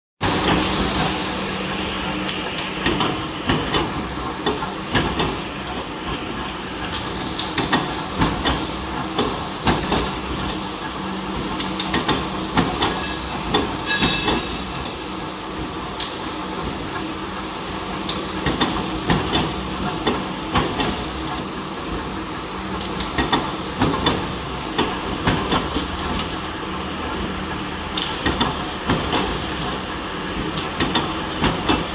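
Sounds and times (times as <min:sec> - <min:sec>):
punch press humming: 0:00.2 - 0:31.9.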